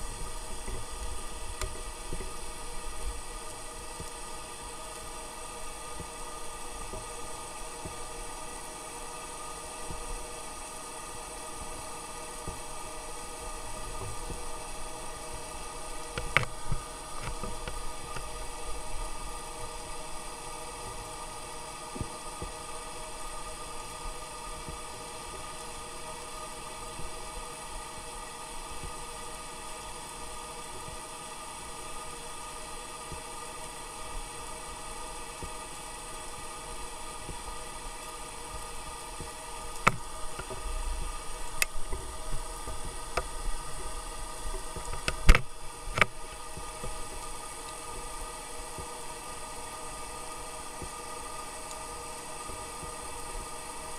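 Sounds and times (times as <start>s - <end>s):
underwater ship engine drone: 0.0s - 53.9s.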